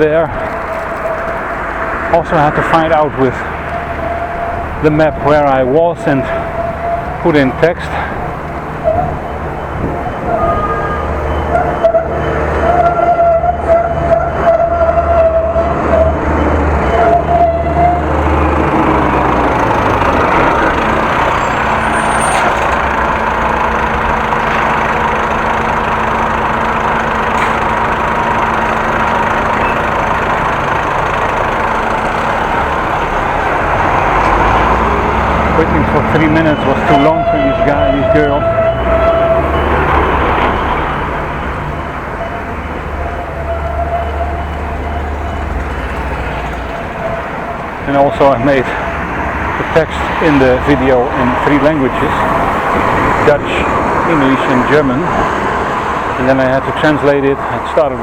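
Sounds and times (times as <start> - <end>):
traffic rushing: 0.0 - 58.0
vehicle engine rumbling: 0.0 - 58.0.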